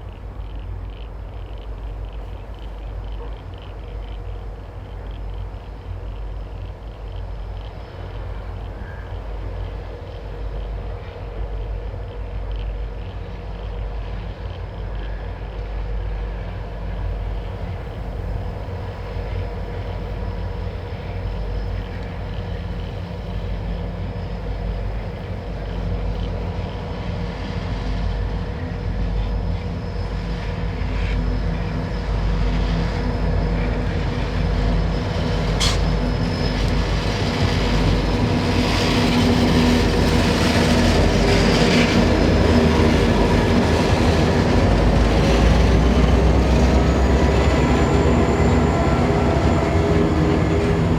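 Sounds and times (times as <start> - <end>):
diesel locomotive engines throbbing: 0.0 - 50.9.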